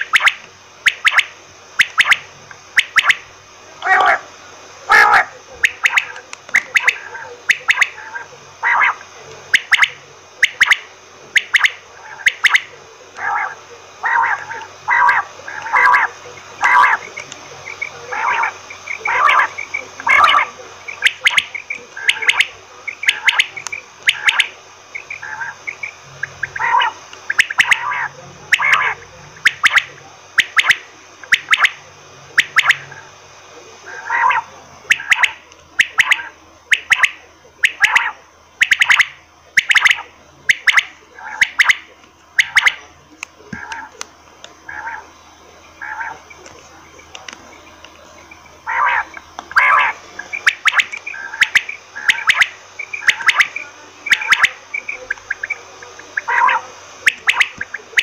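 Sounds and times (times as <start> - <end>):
quail calling: 0.0 - 4.3, 4.9 - 31.8, 32.4 - 33.1, 33.9 - 42.8, 43.6 - 43.9, 44.6 - 45.2, 45.8 - 46.4, 47.5 - 58.0.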